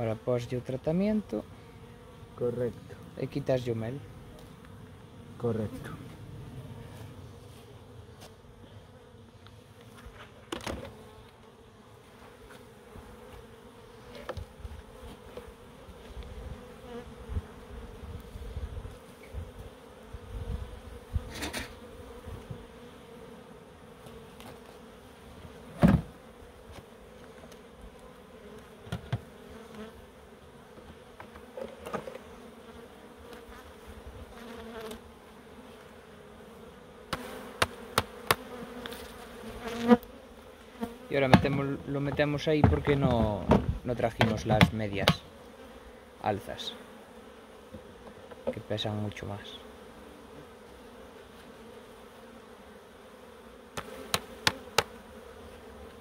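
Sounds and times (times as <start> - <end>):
honeybees buzzing: 0.0 - 56.0.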